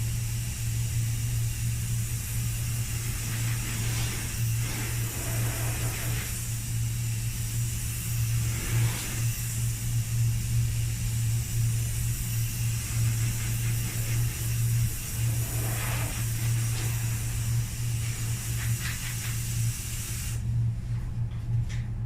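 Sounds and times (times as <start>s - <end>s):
low machine hum: 0.0s - 22.0s
faint hiss: 0.8s - 20.4s.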